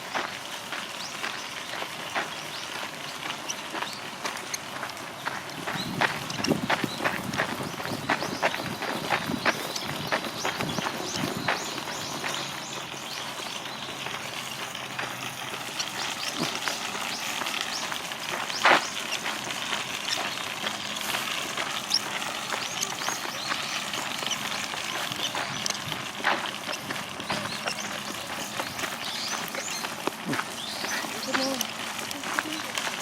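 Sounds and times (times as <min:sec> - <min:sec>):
footsteps on path: 0:00.0 - 0:33.0
outdoor background noise: 0:00.0 - 0:33.0.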